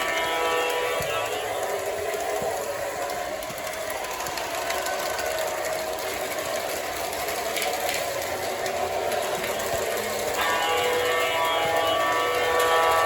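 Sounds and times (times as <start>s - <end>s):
model train motor and wheels clatter: 0.0s - 13.0s.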